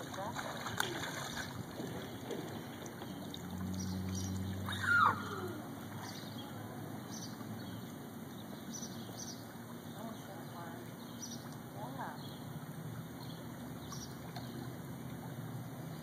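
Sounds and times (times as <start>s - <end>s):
low steady hum: 0.0s - 16.0s
pool water splashing: 0.0s - 16.0s.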